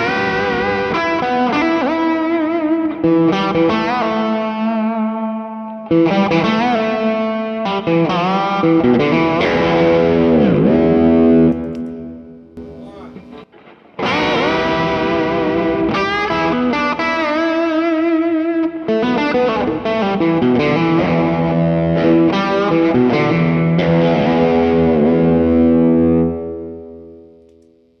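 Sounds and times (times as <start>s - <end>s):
overdriven electric guitar: 0.0s - 28.0s.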